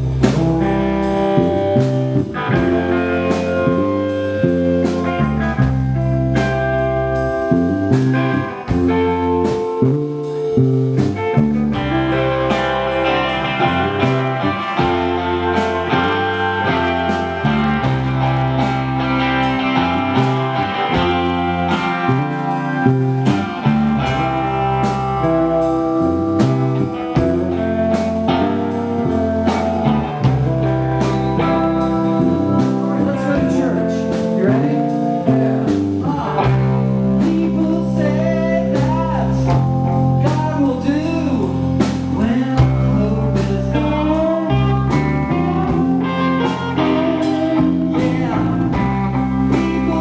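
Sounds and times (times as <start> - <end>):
bass: 0.0 - 50.0
drums: 0.0 - 50.0
electric guitar: 0.0 - 50.0.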